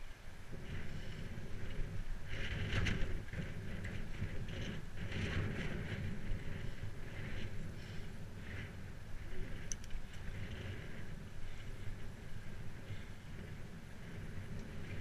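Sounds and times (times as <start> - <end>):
bicycle tyres rumbling on grass: 0.0 - 15.0
wind on microphone: 0.0 - 15.0.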